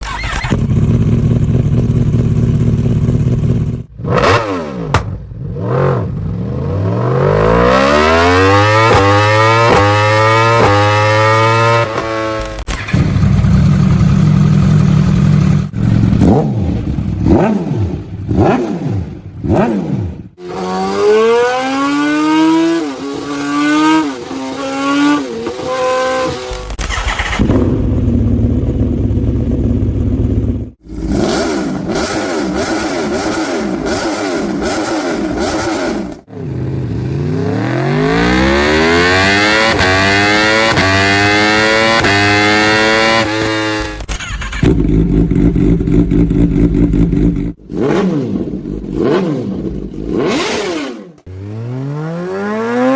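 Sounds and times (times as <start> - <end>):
motorcycle exhaust revving: 0.4 - 26.7, 27.3 - 52.9.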